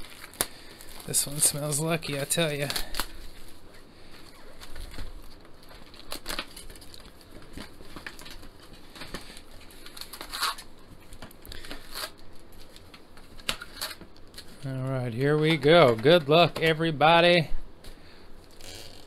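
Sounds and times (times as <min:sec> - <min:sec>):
foil wrappers crinkling: 0:00.0 - 0:16.4.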